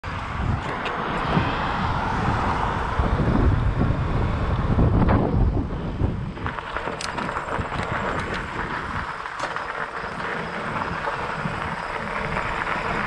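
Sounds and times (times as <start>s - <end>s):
tyres rolling on asphalt: 0.0s - 13.0s
wind buffeting microphone: 0.0s - 13.0s.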